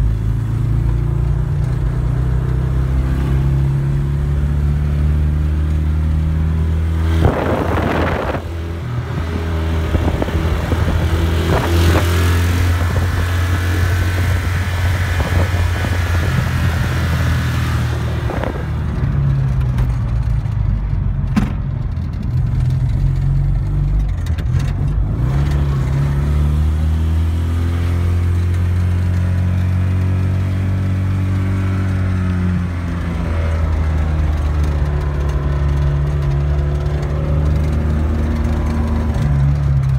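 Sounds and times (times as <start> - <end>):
small engine running while driving: 0.0 - 39.9.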